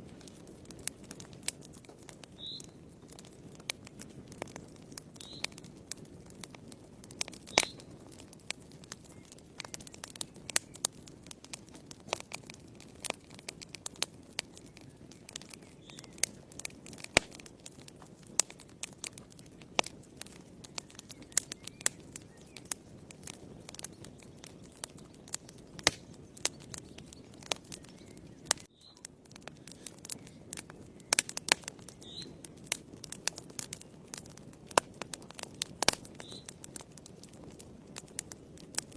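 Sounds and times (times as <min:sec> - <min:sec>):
low rush of flame: 0:00.0 - 0:38.9
wood fire crackling and popping: 0:00.0 - 0:38.9.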